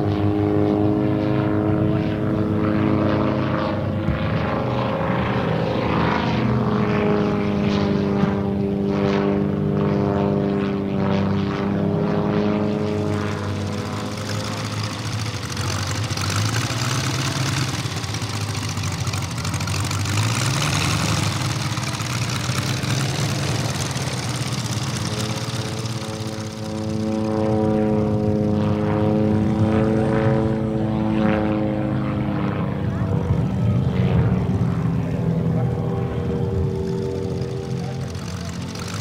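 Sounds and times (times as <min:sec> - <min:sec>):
model plane radial engine: 0:00.0 - 0:39.0.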